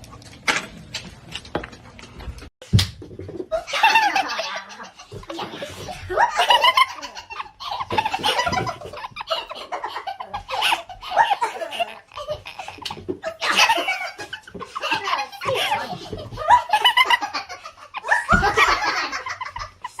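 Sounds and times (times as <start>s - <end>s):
hearty laughter: 3.5s - 20.0s.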